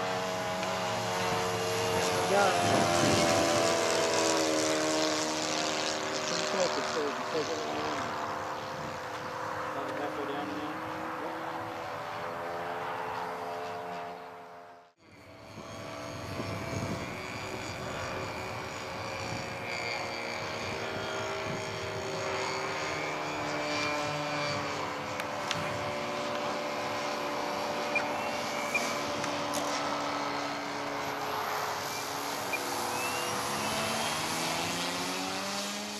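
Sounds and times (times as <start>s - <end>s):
model airplane propeller drone: 0.0s - 35.9s.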